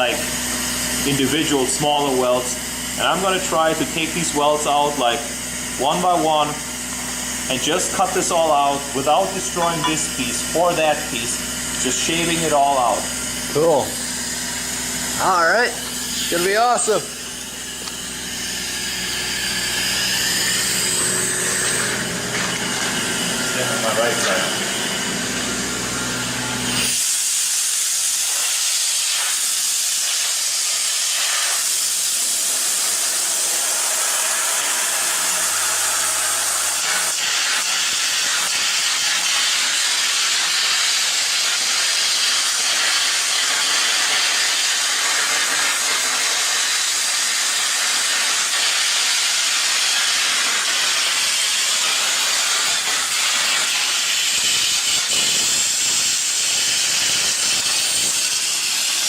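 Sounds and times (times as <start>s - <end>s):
arc gouging hiss: 0.0s - 59.0s.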